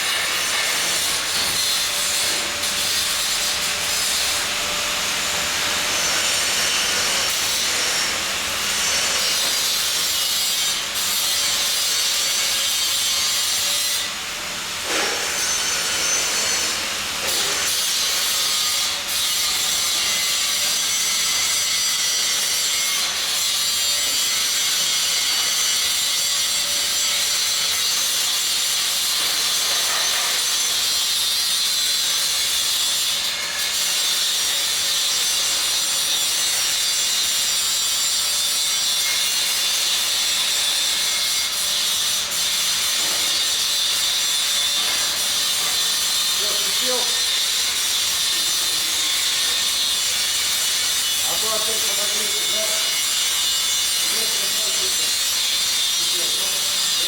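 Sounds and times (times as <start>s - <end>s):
arc welding crackling hiss: 0.0s - 57.0s.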